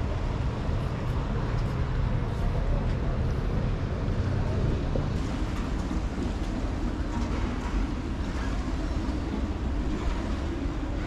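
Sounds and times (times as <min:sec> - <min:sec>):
boat engines rumbling: 0:00.0 - 0:11.0.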